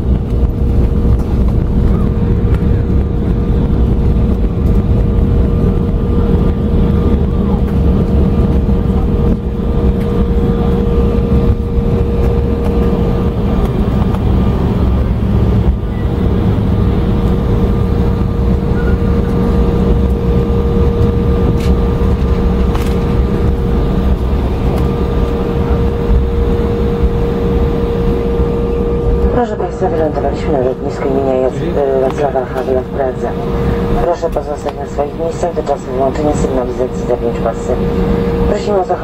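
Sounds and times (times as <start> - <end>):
airliner cabin rumble: 0.0 - 39.0
constant hum: 0.0 - 39.0.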